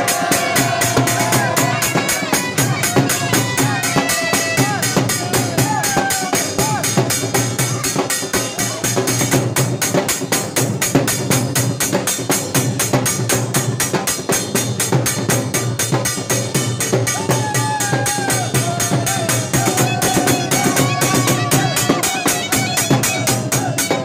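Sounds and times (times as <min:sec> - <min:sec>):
fast drum beat: 0:00.0 - 0:24.0.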